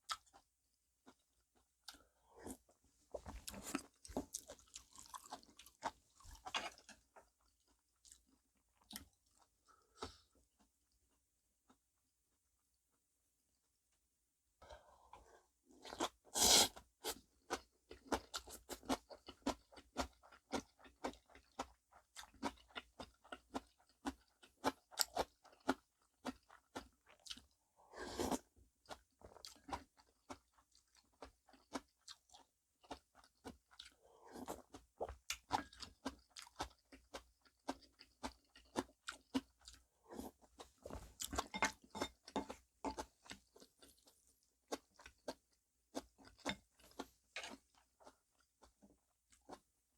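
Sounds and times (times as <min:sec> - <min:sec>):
person chewing crunchy food: 0:00.0 - 0:10.4, 0:15.2 - 0:49.8.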